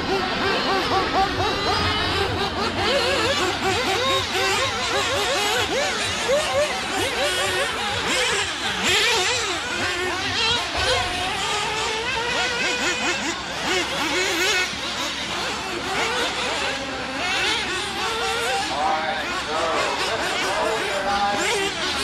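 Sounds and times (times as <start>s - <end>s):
racing car engines revving: 0.0s - 22.0s.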